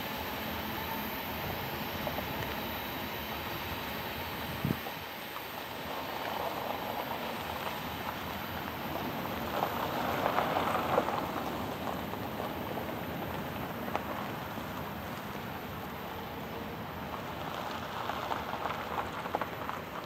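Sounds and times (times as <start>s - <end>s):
cars crossing railroad crossing: 0.0s - 20.0s
distant freight train approaching: 0.0s - 20.0s
tyres hissing on road: 0.0s - 20.0s.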